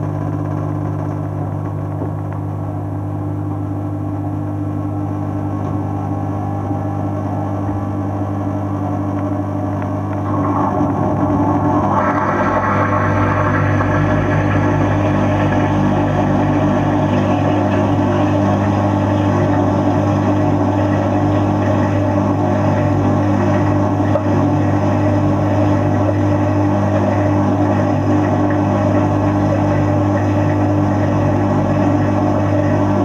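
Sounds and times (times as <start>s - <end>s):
dishwasher pump motor humming: 2.6s - 33.0s.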